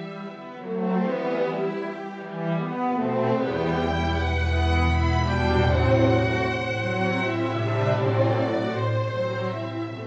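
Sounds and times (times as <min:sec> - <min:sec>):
slow sad bowed strings: 0:00.0 - 0:10.0.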